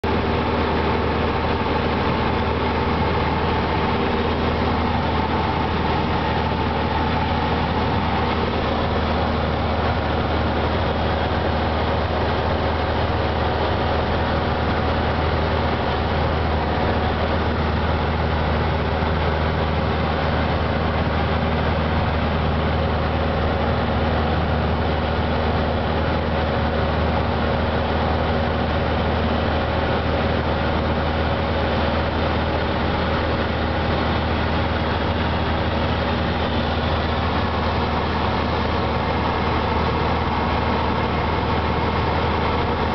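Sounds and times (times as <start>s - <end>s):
light aircraft engine and propeller droning: 0.0s - 42.9s.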